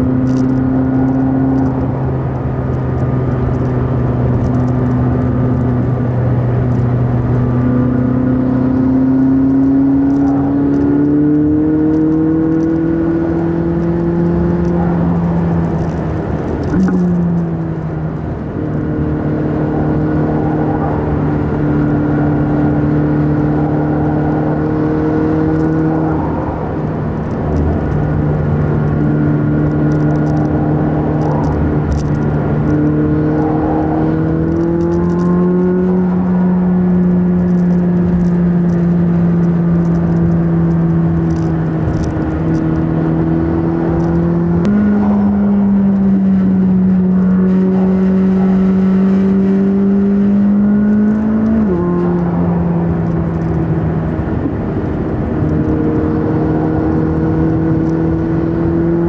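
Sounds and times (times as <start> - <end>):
car engine heard from inside cabin: 0.0 - 59.0
tyre and road noise: 0.0 - 59.0.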